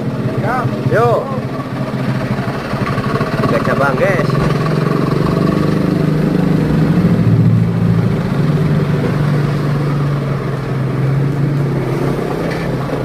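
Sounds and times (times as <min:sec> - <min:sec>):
diesel engine deep drone: 0:00.0 - 0:13.0.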